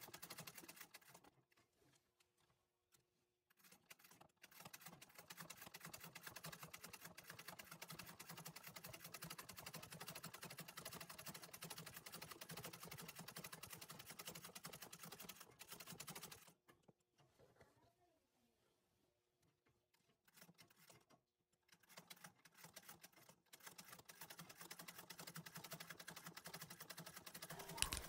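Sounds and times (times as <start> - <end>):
treadle sewing machine stitching: 0.0 - 1.6, 3.5 - 16.9, 19.9 - 28.0.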